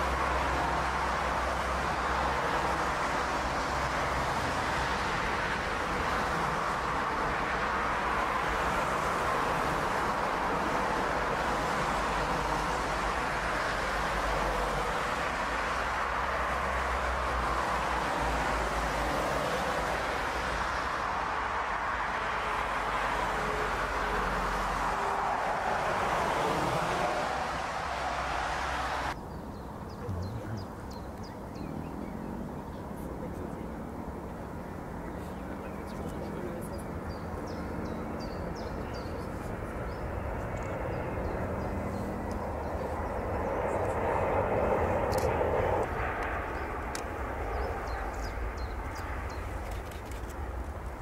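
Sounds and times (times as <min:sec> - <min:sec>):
jet engines rushing: 0:00.0 - 0:29.2, 0:39.3 - 0:51.0.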